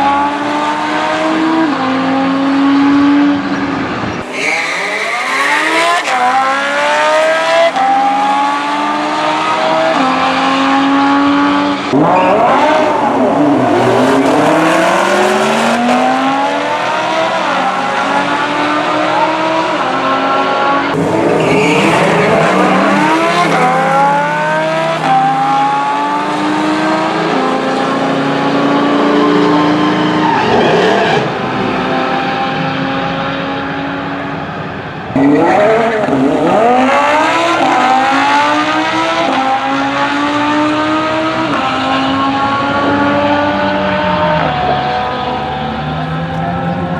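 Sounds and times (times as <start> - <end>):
sports car engine accelerating: 5.5 - 34.4, 35.0 - 46.9.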